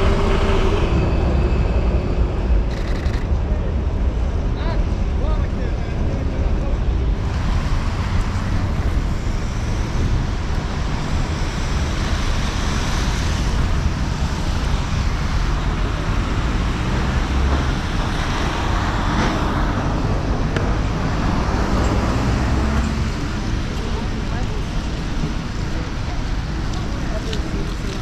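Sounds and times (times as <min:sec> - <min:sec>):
street traffic with low rumble: 0:00.0 - 0:28.0.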